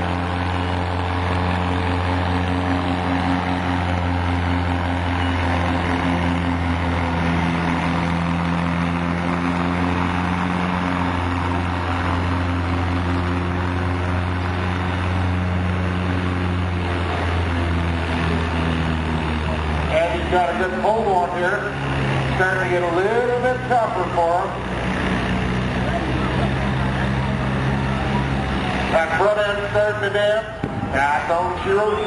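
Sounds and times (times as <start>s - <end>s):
tractor engine under full load: 0.0s - 32.0s.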